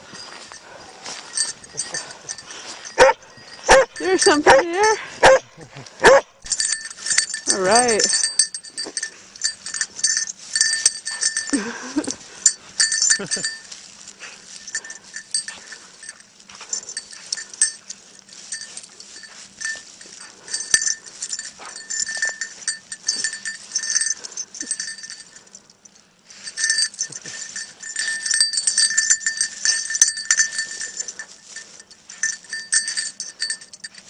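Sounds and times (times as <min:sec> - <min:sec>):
dog collar bell jingling: 0:00.0 - 0:34.0.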